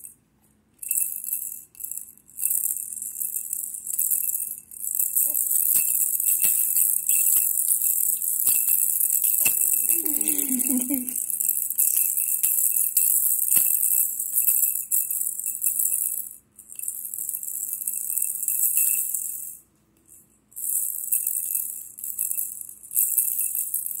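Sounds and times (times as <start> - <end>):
plastic rattle shaking: 0.8 - 24.0.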